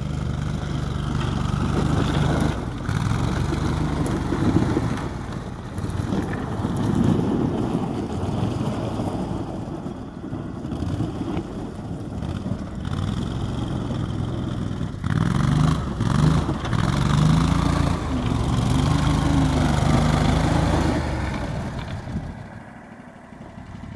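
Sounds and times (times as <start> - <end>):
atv engine revving: 0.0 - 9.7, 10.3 - 23.9
tyres on dirt and gravel: 0.0 - 23.9.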